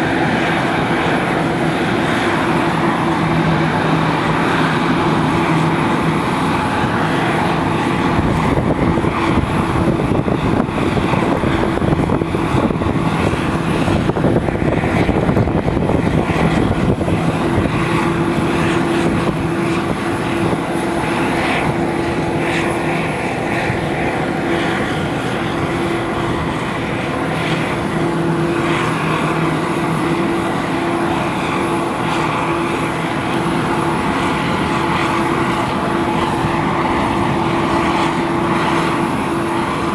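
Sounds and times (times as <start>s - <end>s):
aircraft engines roaring: 0.0s - 39.9s.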